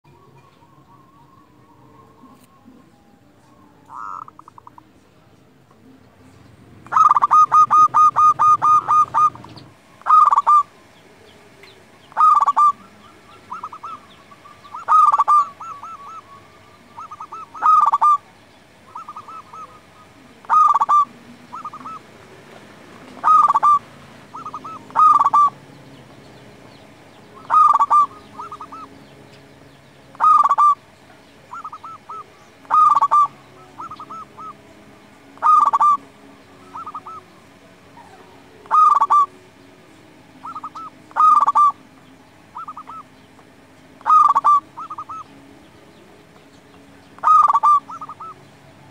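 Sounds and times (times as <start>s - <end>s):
dove cooing: 0.0s - 4.9s, 5.8s - 29.1s, 30.1s - 39.5s, 40.3s - 43.2s, 43.9s - 45.4s, 47.1s - 48.9s.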